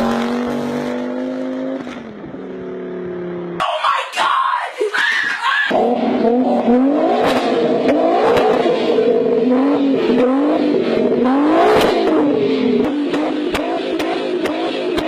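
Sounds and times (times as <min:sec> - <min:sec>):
car engine revving: 0:00.0 - 0:04.4, 0:05.4 - 0:15.0.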